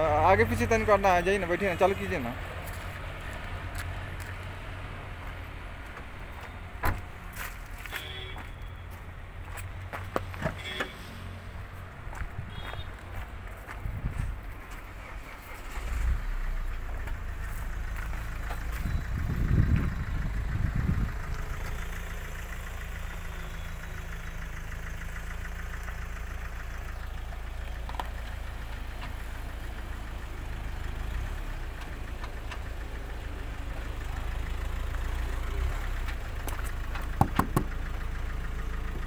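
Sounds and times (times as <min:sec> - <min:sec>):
car engine starting and idling: 0:00.0 - 0:39.0.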